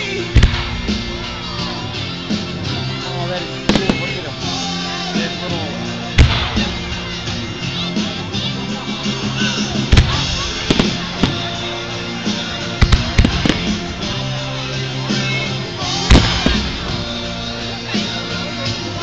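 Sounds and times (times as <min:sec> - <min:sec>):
fireworks bangs and crackles: 0:00.0 - 0:02.6, 0:03.5 - 0:05.3, 0:06.0 - 0:18.4
music playing: 0:00.0 - 0:19.0.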